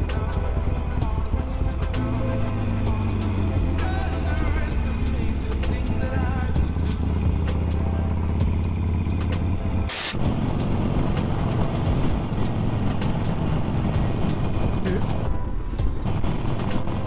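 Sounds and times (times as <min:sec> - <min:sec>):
motorcycle engine at road speed: 0:00.0 - 0:17.0.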